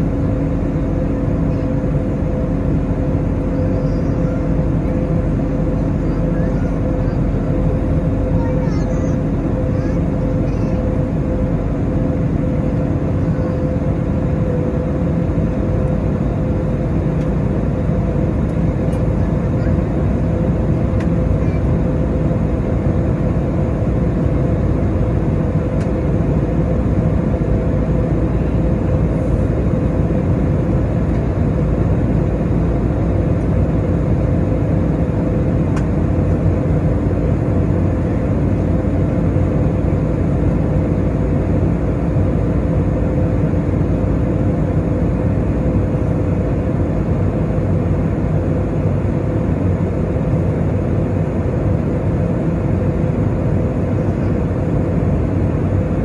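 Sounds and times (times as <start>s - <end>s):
airplane engines droning: 0.0s - 56.0s.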